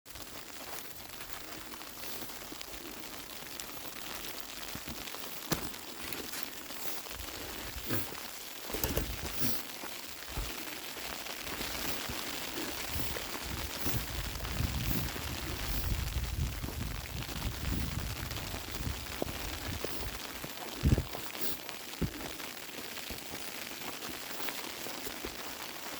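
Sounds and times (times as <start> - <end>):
small ticks and crackles: 0.1 - 25.9
snow falling soft hiss: 0.1 - 25.9.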